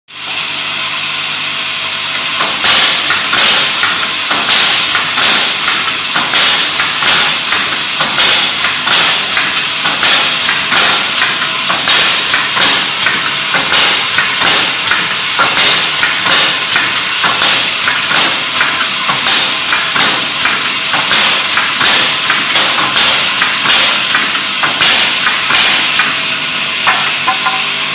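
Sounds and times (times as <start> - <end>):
pneumatic nailer bangs: 2.4 - 26.2
steady machine hiss: 2.4 - 27.1.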